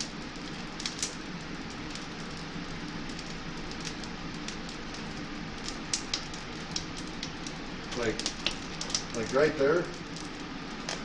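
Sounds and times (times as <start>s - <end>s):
electric fan blowing: 0.0s - 11.0s
wood fire crackling and popping: 0.0s - 11.0s.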